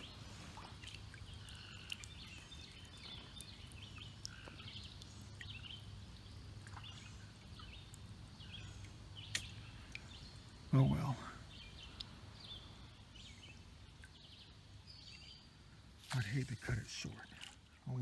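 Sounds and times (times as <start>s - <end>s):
bird chirps: 0.0s - 17.4s.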